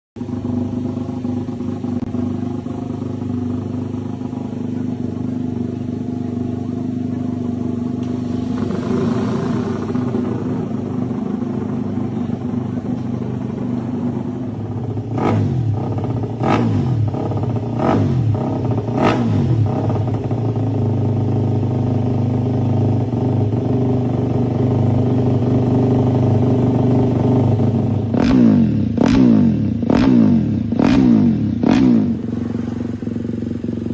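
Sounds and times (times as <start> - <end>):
motorcycle engines idling: 0.2 - 33.9.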